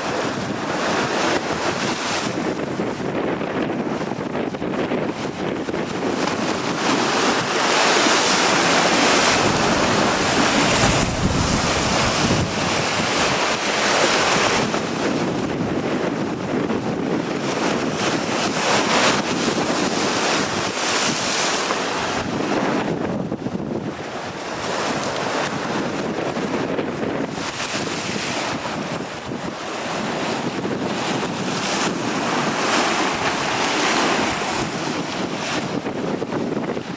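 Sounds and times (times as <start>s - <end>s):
gusting wind on microphone: 0.0s - 36.9s
ocean surf: 0.0s - 36.9s.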